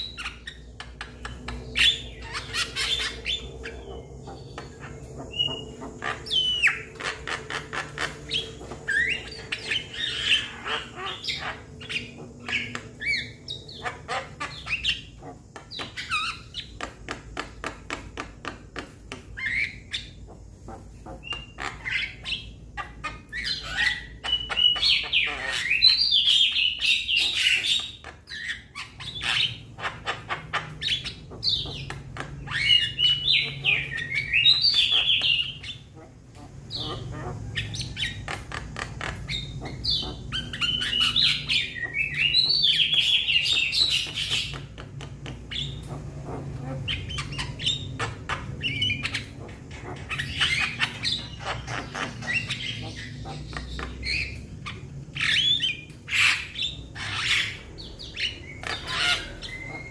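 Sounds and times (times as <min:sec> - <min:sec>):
myna calling with clicks and chatter: 0:00.0 - 0:59.9.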